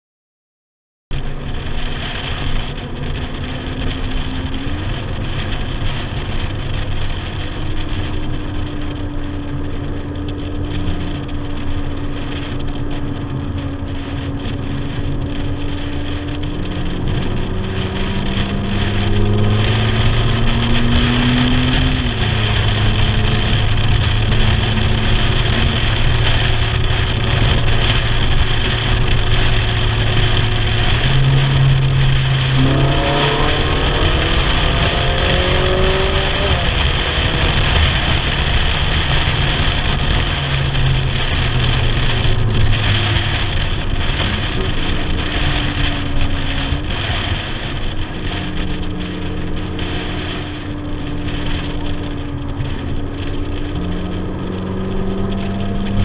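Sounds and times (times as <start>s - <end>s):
car engine running: 1.1s - 56.0s
wind and road noise: 1.1s - 56.0s.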